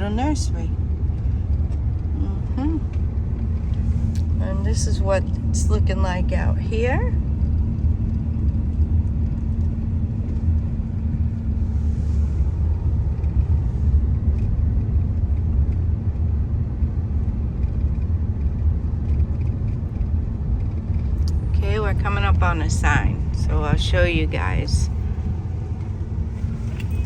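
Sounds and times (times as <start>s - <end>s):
faint steady hum: 0.0s - 27.0s
truck engine and tyres rumbling: 0.0s - 27.0s.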